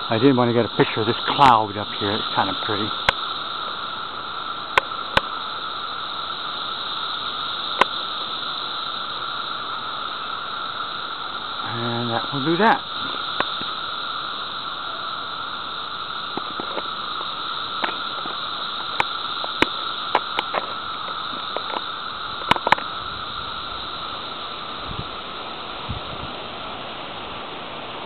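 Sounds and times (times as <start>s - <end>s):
cicada chorus: 0.0s - 28.0s.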